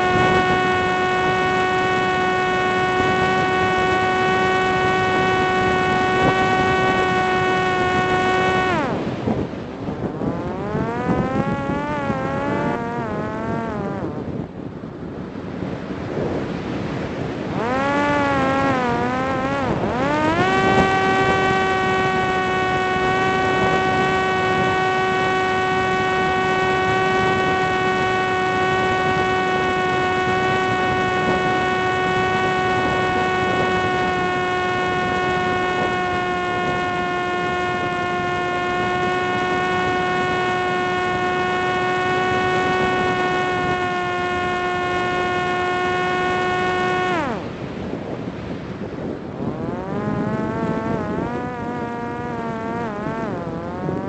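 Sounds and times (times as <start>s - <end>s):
motor-like whine: 0.0s - 54.0s
rushing wind noise: 0.0s - 54.0s.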